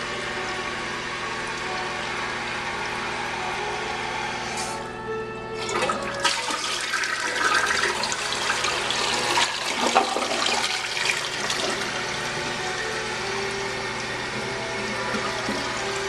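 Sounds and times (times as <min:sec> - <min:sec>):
toilet flushing: 0:00.0 - 0:04.9, 0:05.6 - 0:16.0.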